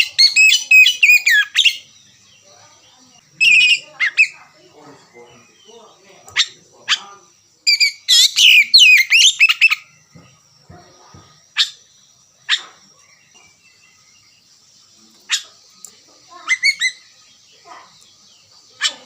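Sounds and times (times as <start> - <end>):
songbird singing and chattering: 0.0 - 19.0.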